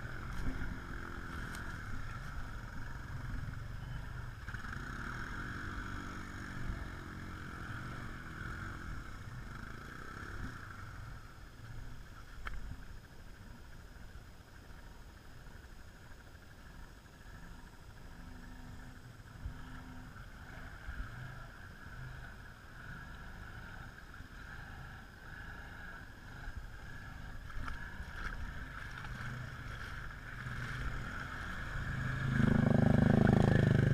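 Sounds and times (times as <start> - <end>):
quad bike engine: 0.0 - 33.9.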